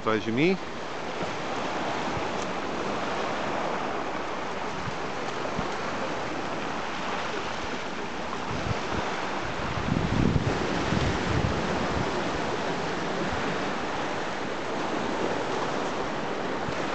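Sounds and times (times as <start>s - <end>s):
surf on a pebble beach: 0.0s - 16.9s
wind buffeting microphone: 0.0s - 16.9s.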